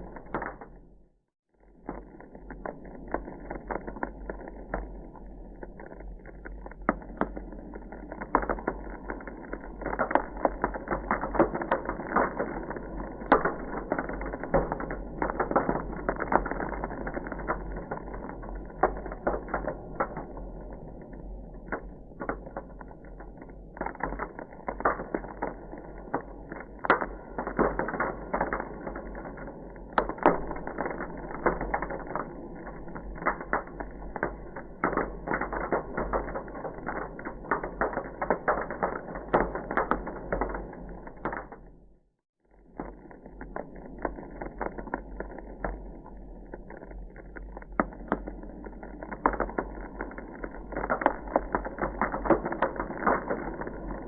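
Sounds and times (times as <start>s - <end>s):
ice crackling and popping: 0.0s - 54.0s.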